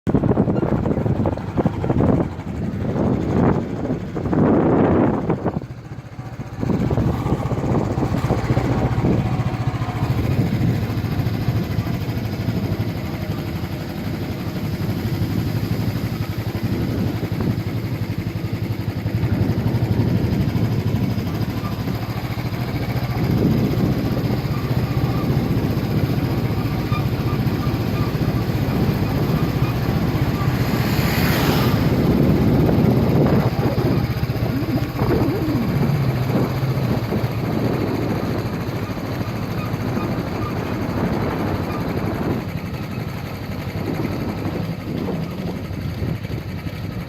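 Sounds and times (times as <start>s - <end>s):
motorcycle engine running: 0.1s - 47.0s.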